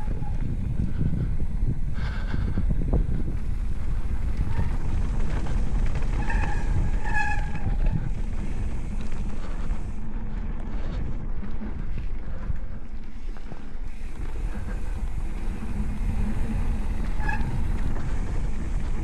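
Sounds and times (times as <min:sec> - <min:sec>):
bike rolling on a trail: 0:00.0 - 0:19.0
wind buffeting microphone: 0:00.0 - 0:19.0.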